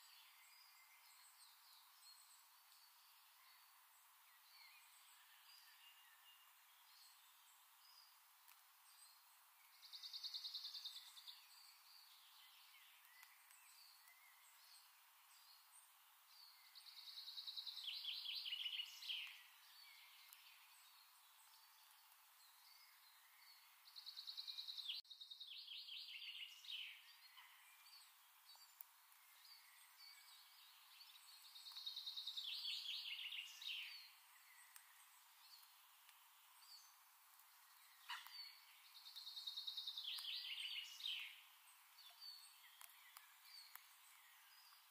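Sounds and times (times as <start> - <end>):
faint steady hiss: 0.0 - 44.9.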